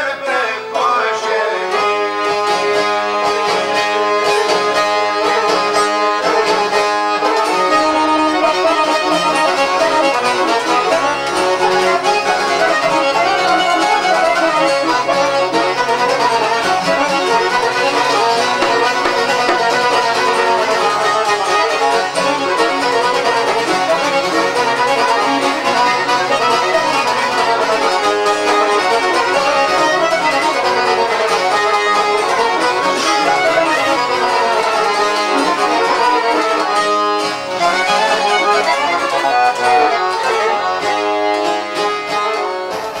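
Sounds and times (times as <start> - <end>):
folk music with violin and accordion: 0.0 - 43.0.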